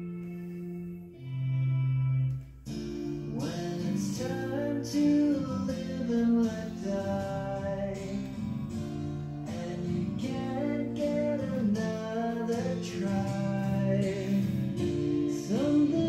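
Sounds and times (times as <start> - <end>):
rock song with guitar and singing: 0.0 - 16.0.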